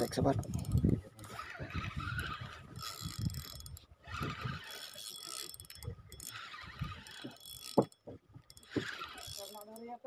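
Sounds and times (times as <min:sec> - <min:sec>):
fishing reel whirring and clicking: 0:00.0 - 0:10.0.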